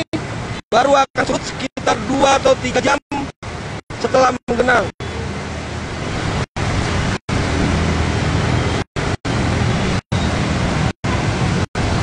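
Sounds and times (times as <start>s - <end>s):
water spray and tyre wash: 0.2s - 12.0s.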